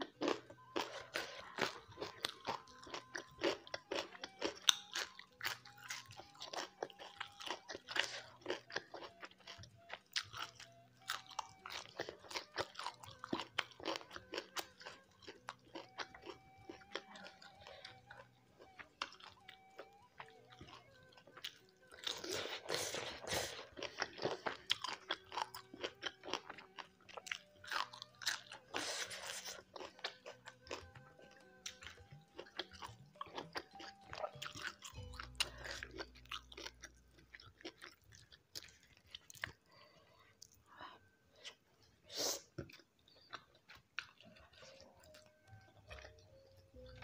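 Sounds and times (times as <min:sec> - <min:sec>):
person chewing crunchy food: 0:00.0 - 0:47.0.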